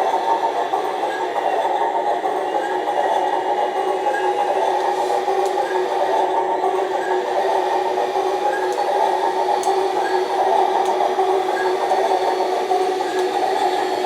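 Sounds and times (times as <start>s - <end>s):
model excavator mechanical hum: 0.2s - 14.0s.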